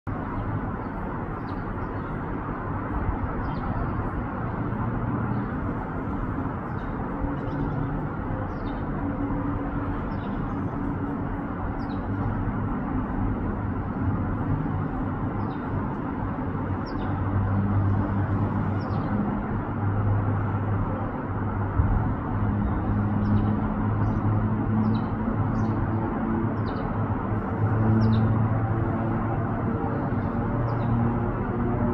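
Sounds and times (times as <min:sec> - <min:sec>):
engine and traffic rumble: 0:00.0 - 0:31.9.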